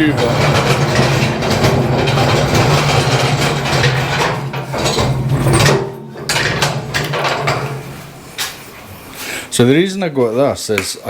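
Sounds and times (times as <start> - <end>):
metal frame rattling: 0.0 - 9.6
castor wheels rumbling: 0.0 - 9.8.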